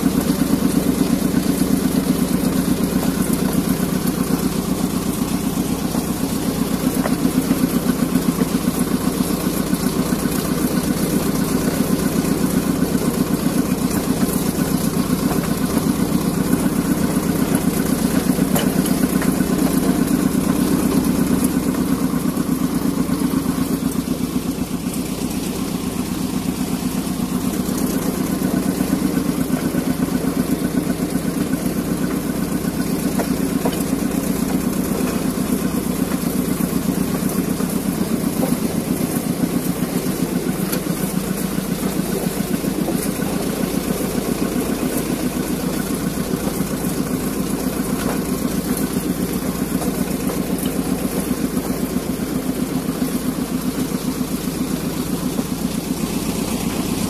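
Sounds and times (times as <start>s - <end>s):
locomotive engine running: 0.0s - 57.0s.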